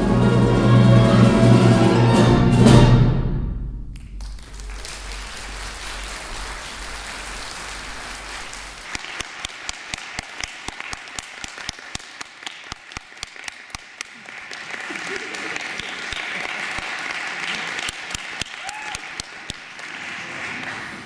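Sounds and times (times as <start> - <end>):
audience applauding: 4.0 - 21.0
close hands clapping sharply: 4.0 - 21.0.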